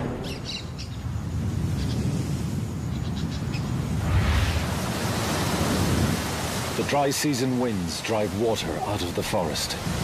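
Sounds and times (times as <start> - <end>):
wind rumbling: 0.0 - 10.0.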